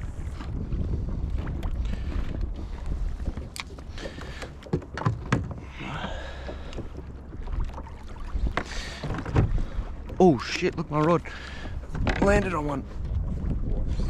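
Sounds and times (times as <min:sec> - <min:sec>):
water slapping boat hull: 0:00.0 - 0:14.0
wind buffeting microphone: 0:00.0 - 0:14.0
knocks and clicks of fishing gear: 0:01.4 - 0:12.7.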